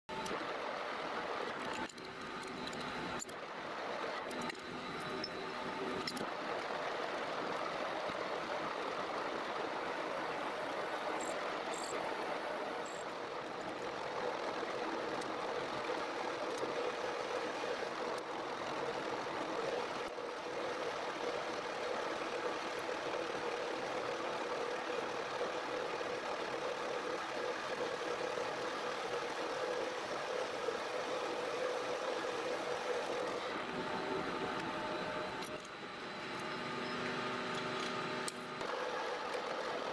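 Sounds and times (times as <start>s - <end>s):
lathe mechanical drone: 0.1s - 39.9s.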